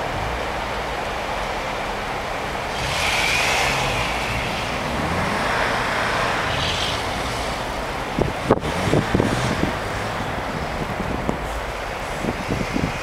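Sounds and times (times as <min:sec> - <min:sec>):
tyres spinning on snow: 0:00.0 - 0:13.0
van engine under throttle: 0:02.3 - 0:13.0.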